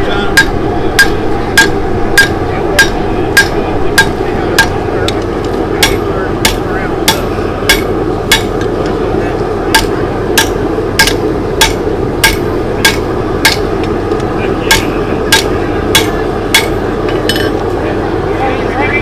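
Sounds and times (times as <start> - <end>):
hammer striking steel on anvil: 0.1 - 9.0, 9.7 - 17.6.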